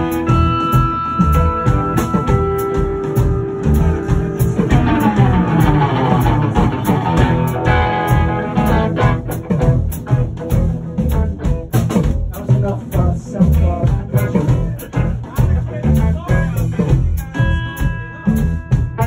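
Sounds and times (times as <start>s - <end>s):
bass guitar: 0.0s - 19.0s
electric guitars: 0.0s - 19.0s
steady drum beat: 0.0s - 19.0s.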